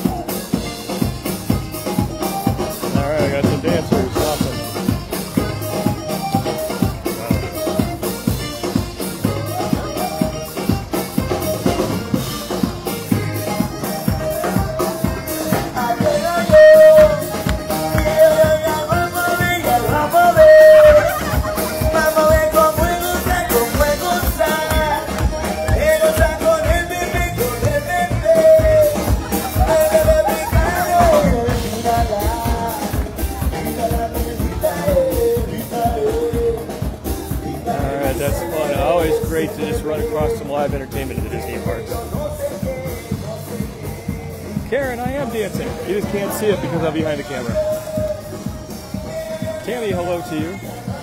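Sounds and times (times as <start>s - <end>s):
drum kit beat: 0.0s - 51.0s
street band playing upbeat music: 0.0s - 51.0s.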